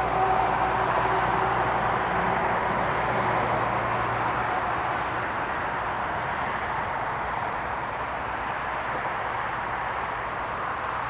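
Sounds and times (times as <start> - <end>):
distant city traffic hiss: 0.0 - 11.0.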